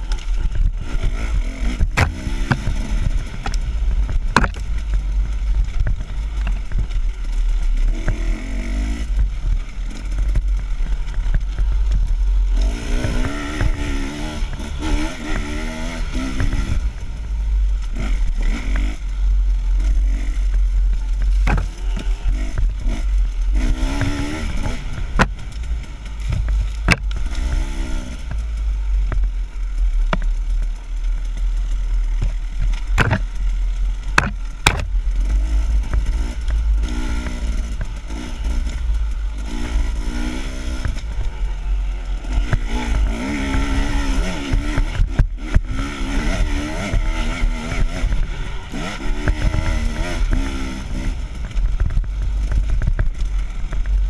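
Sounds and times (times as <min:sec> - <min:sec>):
sharp knocks over bumps: 0:00.0 - 0:41.5, 0:42.1 - 0:54.0
motorcycle engine revving: 0:00.0 - 0:54.0
wind and vibration rumble: 0:00.0 - 0:54.0.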